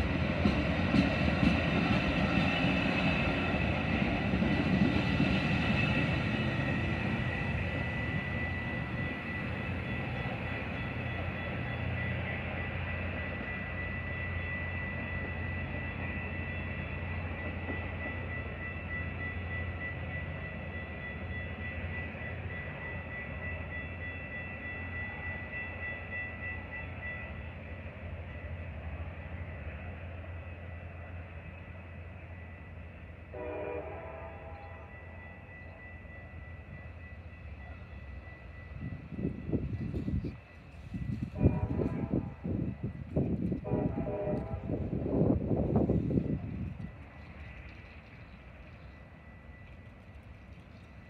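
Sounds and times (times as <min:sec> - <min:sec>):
diesel train rumbling: 0:00.0 - 0:51.0.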